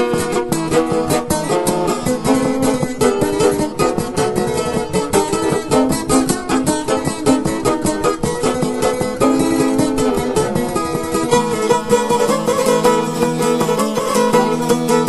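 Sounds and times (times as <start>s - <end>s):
fast folk dance tune on plucked strings: 0.0s - 15.0s.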